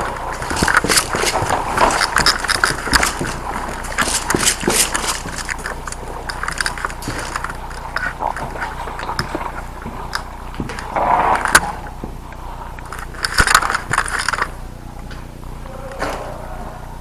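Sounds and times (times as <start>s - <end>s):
gear scuffing: 0.0s - 16.9s
footsteps: 0.0s - 17.0s.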